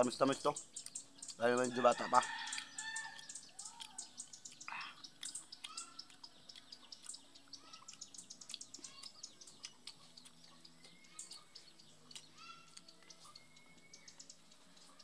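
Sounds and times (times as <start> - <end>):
birds chirping: 0.0 - 15.0
chewing and lip-smacking: 0.6 - 1.4, 2.3 - 15.0.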